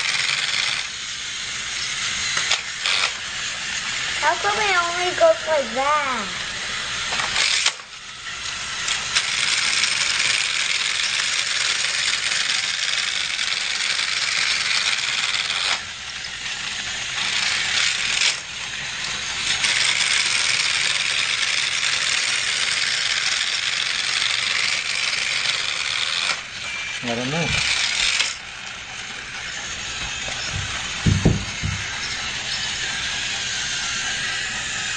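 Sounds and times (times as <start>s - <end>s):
toy train running on plastic track: 0.0s - 34.9s.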